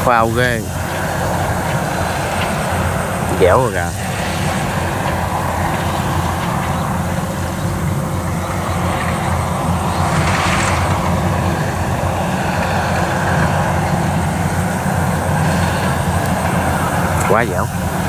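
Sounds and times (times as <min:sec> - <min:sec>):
combine harvester engine drone: 0:00.0 - 0:18.0
hiss: 0:00.0 - 0:18.0.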